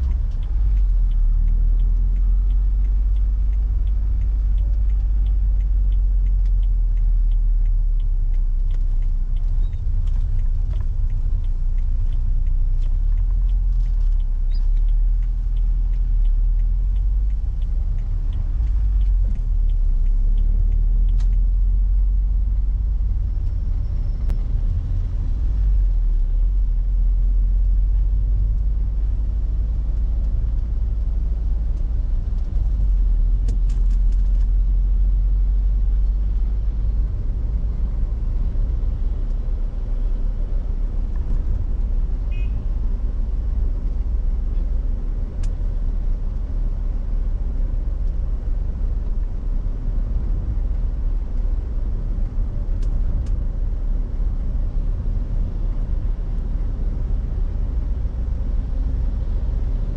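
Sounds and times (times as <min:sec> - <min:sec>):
car engine and road noise: 0:00.0 - 0:59.9
faint light ticks: 0:00.0 - 0:59.9.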